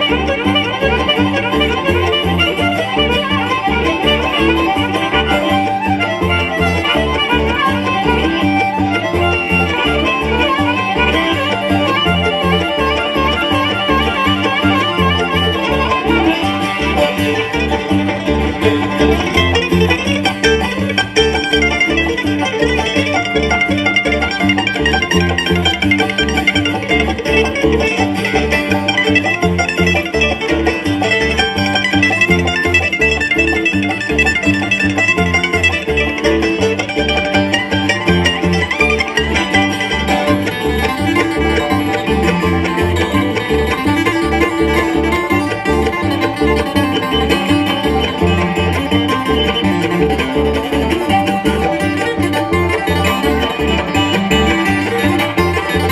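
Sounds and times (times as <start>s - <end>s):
banjo: 0.0s - 55.9s
bluegrass band playing: 0.0s - 55.9s
guitar: 0.0s - 55.9s.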